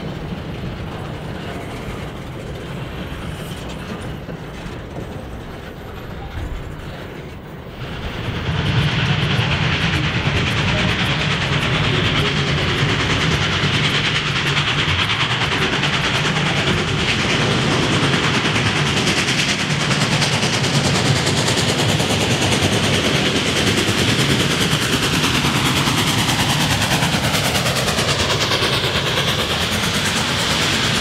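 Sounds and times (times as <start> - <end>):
train clattering rattle: 0.0 - 31.0.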